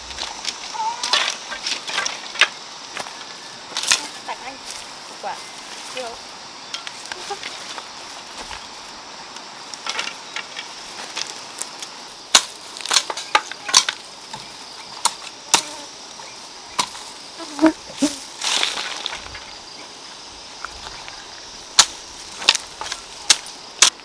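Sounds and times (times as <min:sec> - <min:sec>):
high insect-like hiss: 0:00.0 - 0:24.0.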